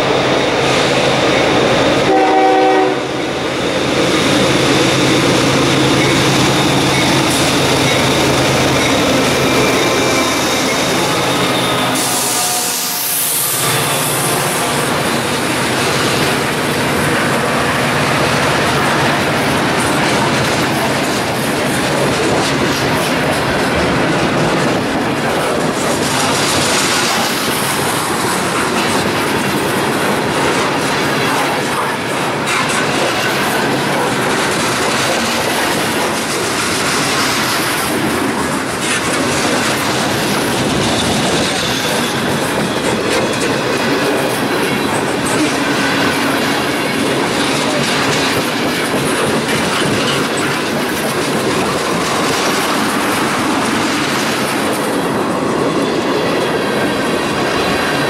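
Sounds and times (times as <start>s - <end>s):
freight train rumbling past: 0.0s - 58.0s
wheels clacking over rail joints: 3.4s - 58.0s.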